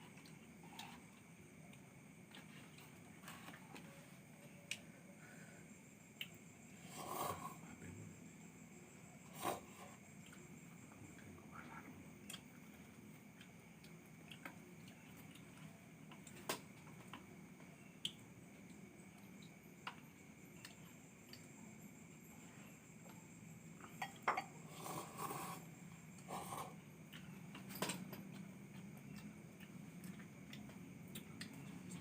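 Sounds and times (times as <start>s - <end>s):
faint high-pitched hum: 0.0s - 32.0s.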